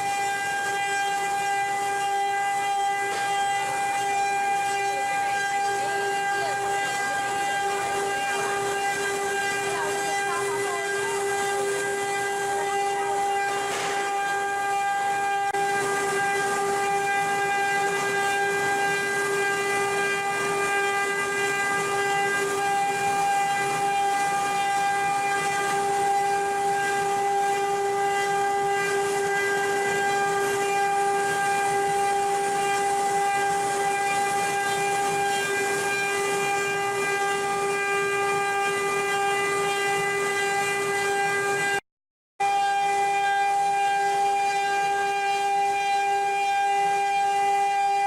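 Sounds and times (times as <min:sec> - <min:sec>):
wood router whining: 0:00.0 - 0:41.8, 0:42.4 - 0:48.0.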